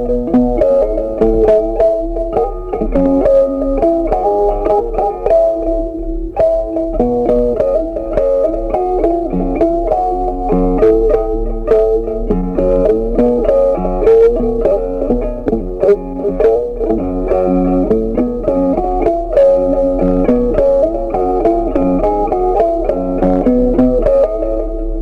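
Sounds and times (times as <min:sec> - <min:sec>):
instrumental music with quick notes: 0:00.0 - 0:25.0.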